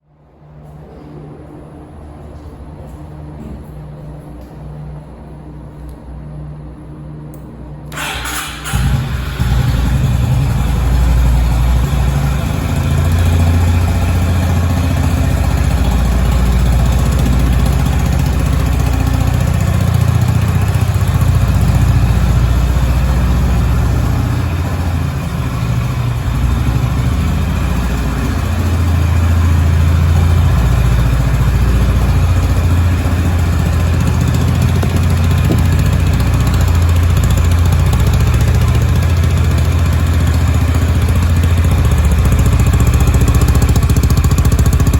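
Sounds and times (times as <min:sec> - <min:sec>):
motorcycle engine idling: 0:08.0 - 0:44.9.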